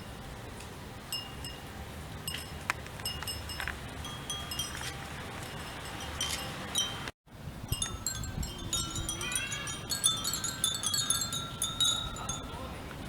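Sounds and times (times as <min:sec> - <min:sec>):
wind bells tinkling: 0:01.1 - 0:12.9.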